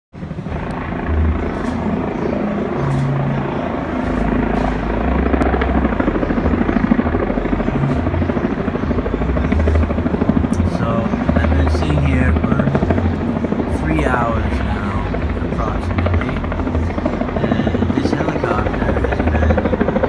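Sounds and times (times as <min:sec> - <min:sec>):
helicopter rotor chopping: 0:00.2 - 0:20.0.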